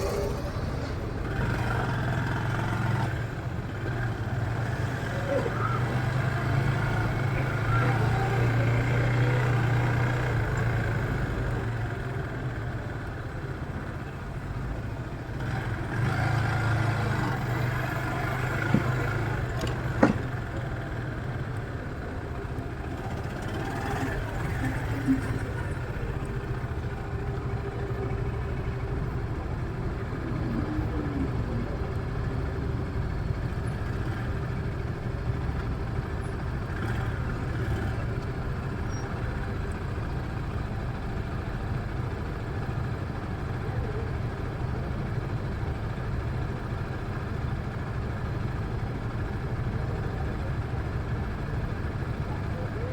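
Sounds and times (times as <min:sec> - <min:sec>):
vehicle engine humming: 0:00.0 - 0:52.9.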